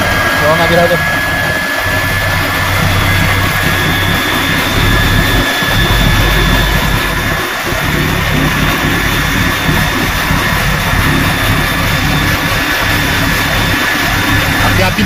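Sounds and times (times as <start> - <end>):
electric motor humming and whining: 0.0 - 15.0
welding arc crackling: 1.8 - 15.0.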